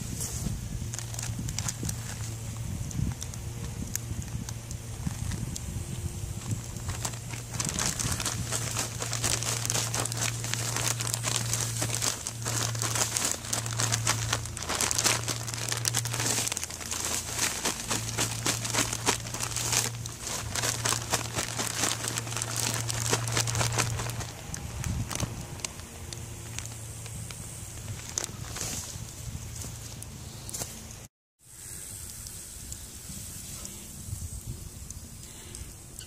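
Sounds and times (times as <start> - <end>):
plastic bag crinkling and rustling: 0.0 - 30.8.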